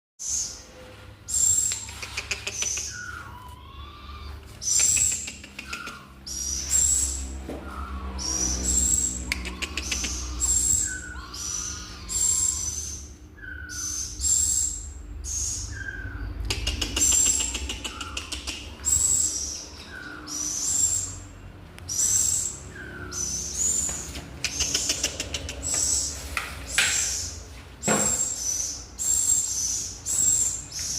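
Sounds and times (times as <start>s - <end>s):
songbird rattling calls: 1.3s - 21.3s, 21.9s - 30.9s.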